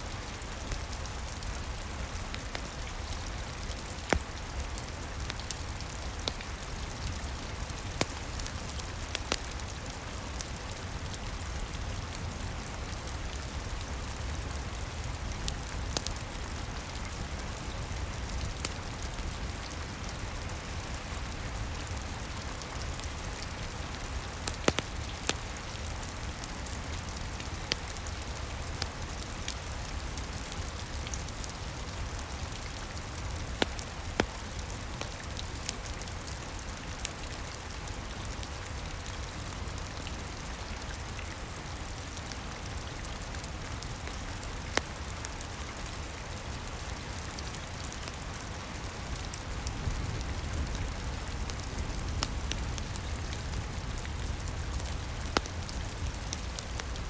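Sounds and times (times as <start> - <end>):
log fire crackling: 0.0 - 57.0
rain pattering: 0.0 - 57.0.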